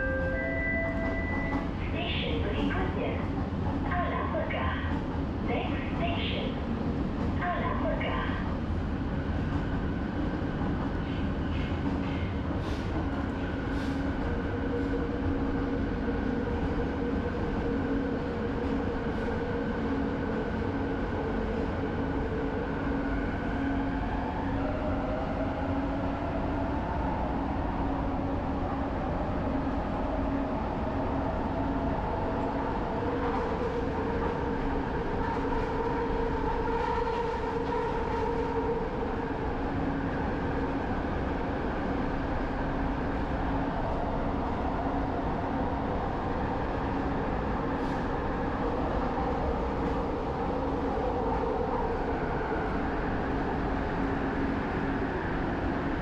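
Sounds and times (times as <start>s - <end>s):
train rolling noise: 0.0s - 56.0s.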